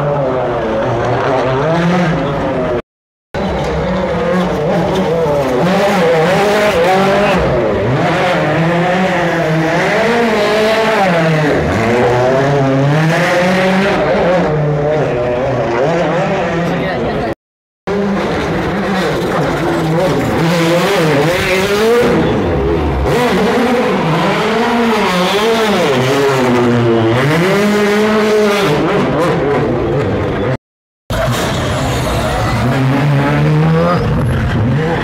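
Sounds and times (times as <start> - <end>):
rally car engines revving: 0.0 - 2.8, 3.4 - 35.0.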